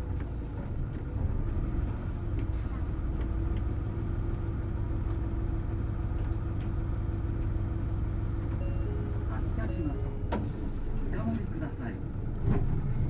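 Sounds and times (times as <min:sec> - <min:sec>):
bus drivetrain drone with whine: 0:00.0 - 0:13.0.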